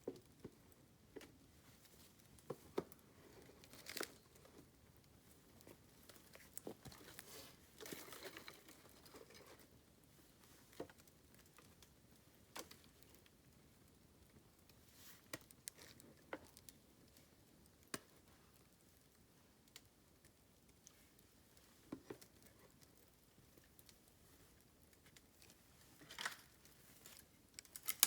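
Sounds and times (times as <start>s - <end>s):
bamboo crackling in campfire: 0.0s - 28.0s.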